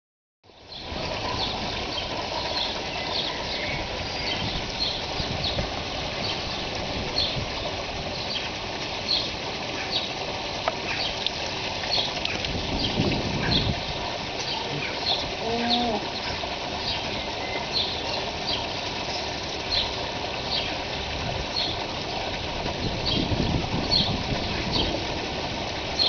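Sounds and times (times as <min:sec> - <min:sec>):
pool water washing: 0:00.5 - 0:26.0
small birds chirping: 0:00.6 - 0:10.2, 0:10.8 - 0:13.8, 0:14.4 - 0:20.8, 0:21.5 - 0:22.2, 0:23.0 - 0:25.0.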